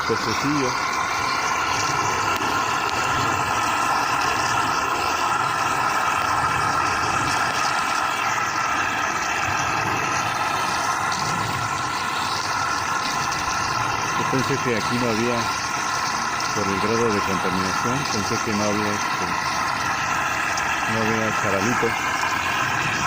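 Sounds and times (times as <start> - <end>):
mechanical drone with high tones: 0.0 - 23.0.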